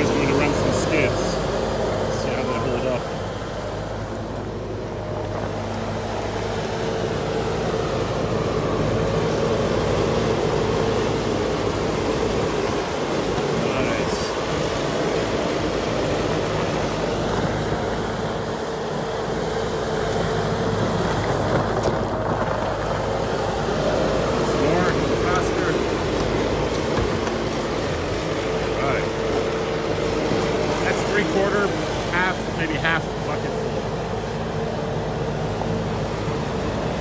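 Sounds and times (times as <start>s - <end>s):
loader diesel engine running: 0.0s - 37.0s.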